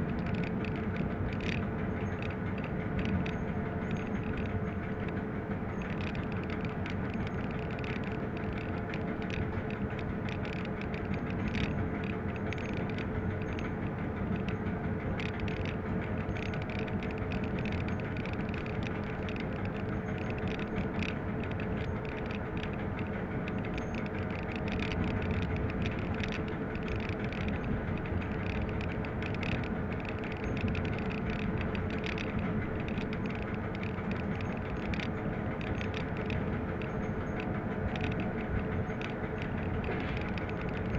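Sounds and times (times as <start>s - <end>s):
clicks and rattles: 0.0s - 40.9s
wheel and rail noise: 0.0s - 40.9s.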